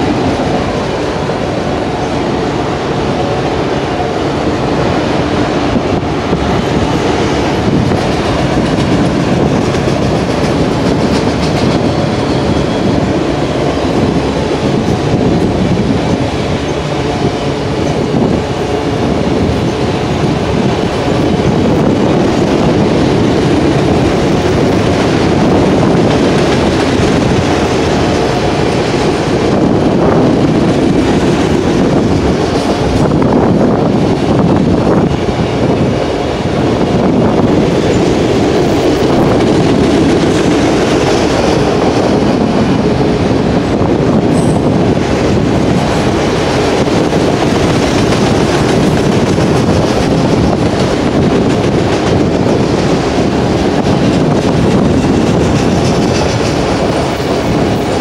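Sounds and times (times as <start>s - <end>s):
steel wheels running on rails: 0.0s - 58.0s.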